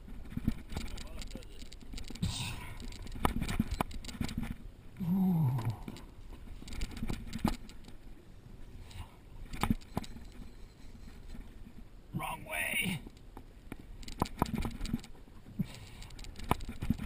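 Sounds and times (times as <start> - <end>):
low background rush: 0.0 - 17.0.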